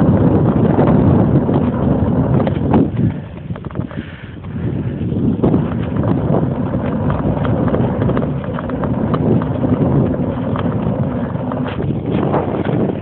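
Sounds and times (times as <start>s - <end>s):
bike rattling and knocking: 0.0s - 13.0s
wind and road rumble: 0.0s - 13.0s.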